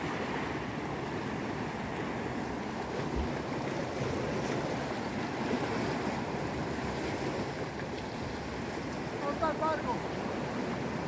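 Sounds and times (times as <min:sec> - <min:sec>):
surf washing against rocks: 0:00.0 - 0:11.0.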